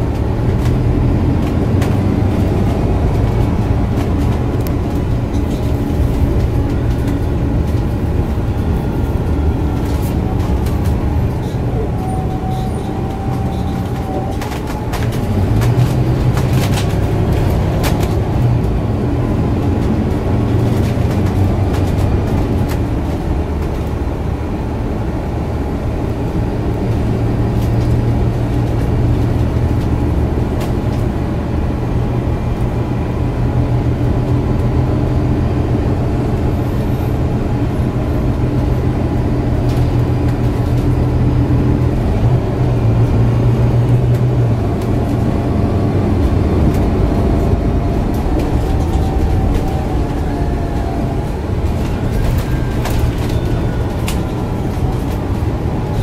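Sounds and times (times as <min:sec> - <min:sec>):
bus diesel engine humming: 0:00.0 - 0:56.0
road noise: 0:00.0 - 0:56.0.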